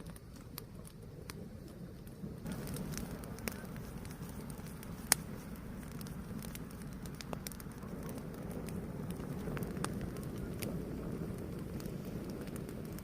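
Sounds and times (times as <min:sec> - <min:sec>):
fire crackling and popping: 0:00.0 - 0:13.0
loud fire pop: 0:02.4 - 0:13.0.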